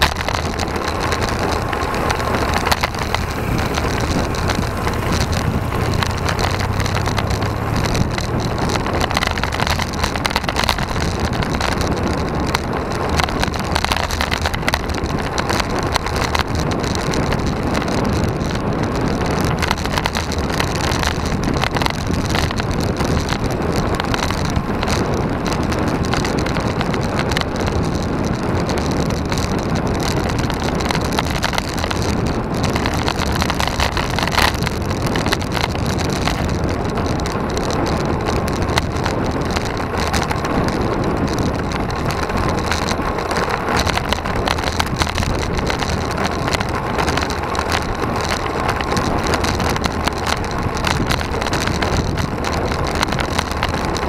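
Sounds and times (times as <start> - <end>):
tyre and road noise: 0.0 - 54.0
wind rumble on microphone: 0.0 - 54.0.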